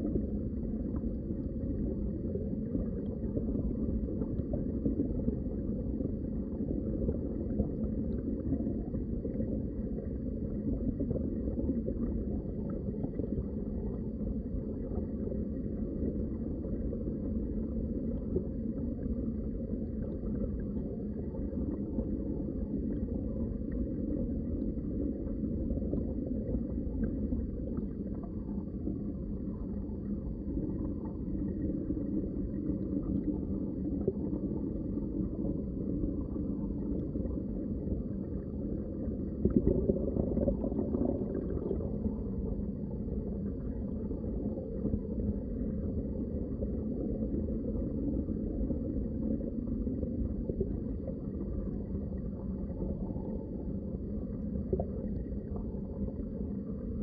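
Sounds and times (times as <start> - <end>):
underwater rush of water: 0.0 - 57.0.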